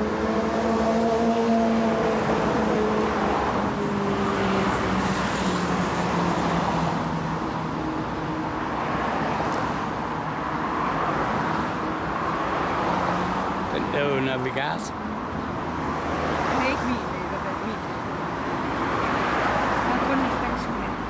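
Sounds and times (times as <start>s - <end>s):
passing vehicle engines humming: 0.0s - 21.0s
street traffic road noise: 0.0s - 21.0s.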